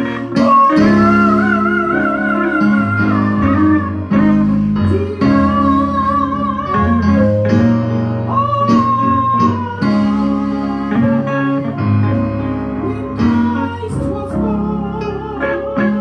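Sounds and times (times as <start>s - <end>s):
guitar playing slow melody: 0.0s - 16.0s
sustained chords and bass: 0.0s - 16.0s.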